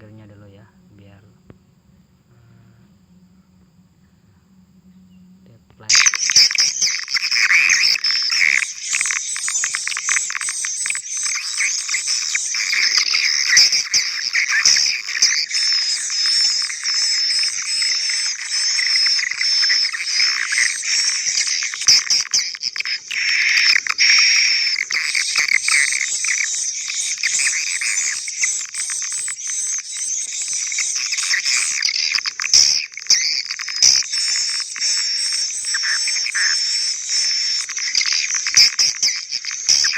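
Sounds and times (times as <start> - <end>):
high-pitched twittering of swiftlets: 5.8 - 39.9.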